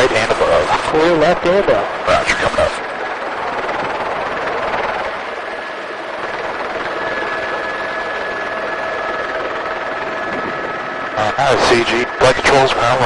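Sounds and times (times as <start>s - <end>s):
helicopter rotor and engine: 0.0s - 13.0s
thin steady whine: 0.0s - 13.0s.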